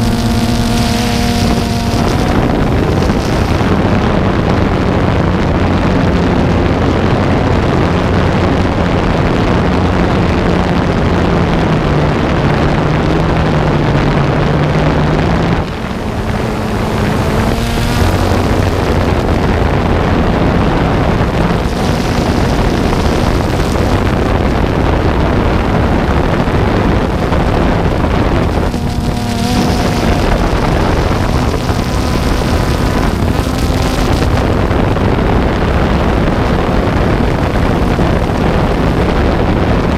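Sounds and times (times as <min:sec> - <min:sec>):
drone motors and propellers: 0:00.0 - 0:39.9
wind buffeting microphone: 0:00.0 - 0:39.9.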